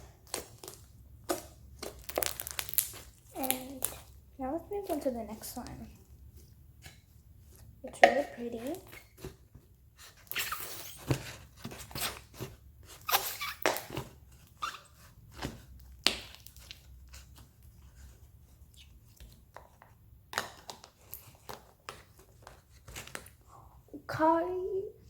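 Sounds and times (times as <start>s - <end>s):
slime squelching and crackling: 0.0s - 11.0s, 11.8s - 23.6s.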